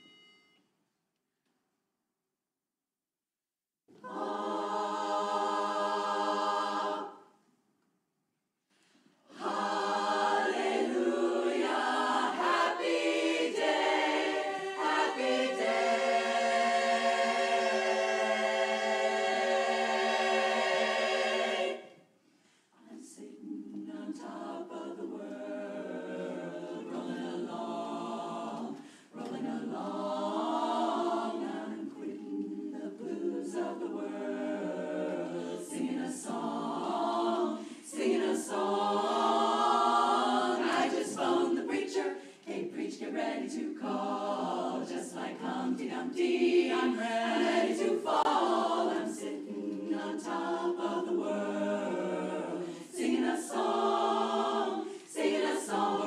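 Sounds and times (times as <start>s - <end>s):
women's chorus singing in harmony: 4.0s - 7.5s, 9.2s - 56.0s.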